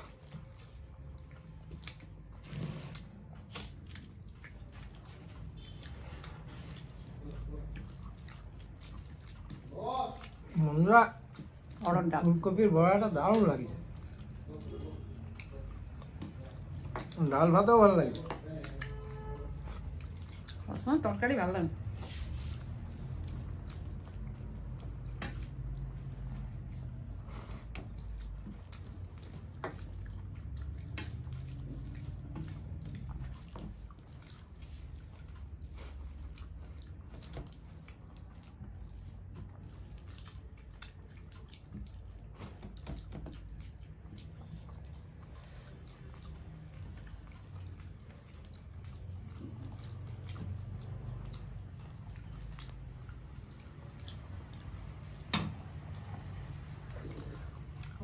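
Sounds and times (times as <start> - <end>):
chewing: 0.0 - 58.0.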